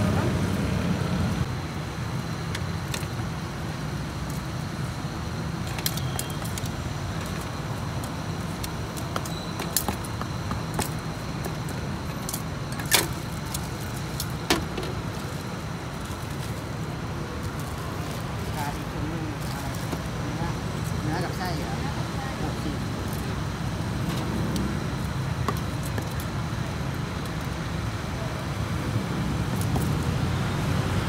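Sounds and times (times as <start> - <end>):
low rumble of road traffic: 0.0 - 31.0.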